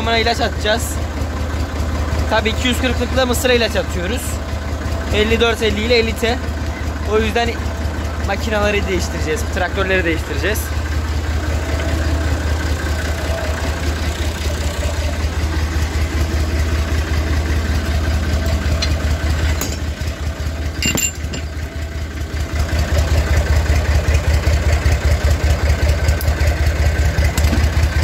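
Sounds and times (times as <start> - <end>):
diesel tractor engine idling: 0.0 - 28.0.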